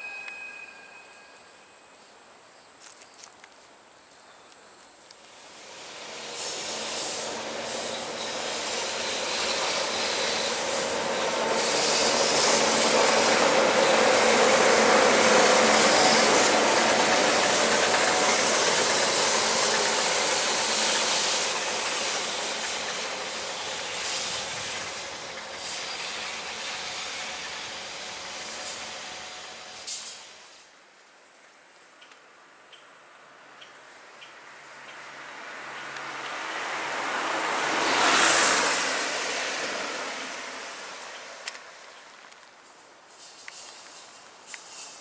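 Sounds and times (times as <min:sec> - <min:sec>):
electric locomotive passing on rails: 0:00.0 - 0:02.7, 0:04.7 - 0:30.8, 0:33.3 - 0:45.0.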